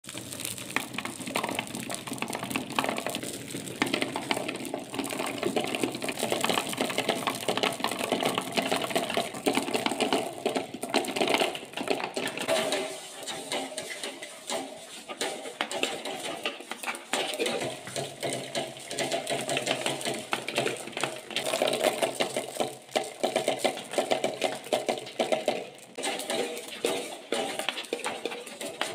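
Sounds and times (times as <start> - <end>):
marbles clattering down cardboard: 0.0 - 13.8, 15.6 - 28.9.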